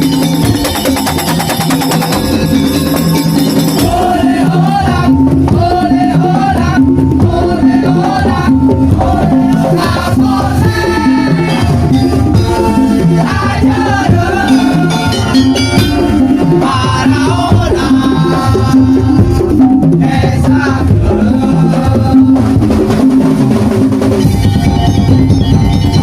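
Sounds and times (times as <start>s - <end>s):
wavering melody line: 0.0s - 19.8s, 24.0s - 26.0s
drums and rattles beat: 0.0s - 26.0s.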